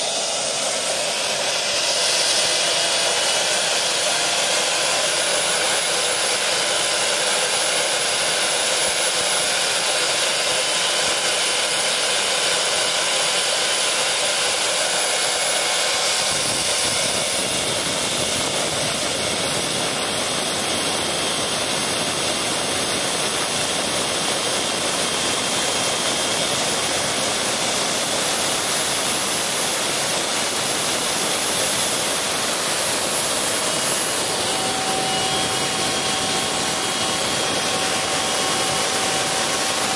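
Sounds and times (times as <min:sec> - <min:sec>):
gas turbine engine whine: 0:00.0 - 0:39.9.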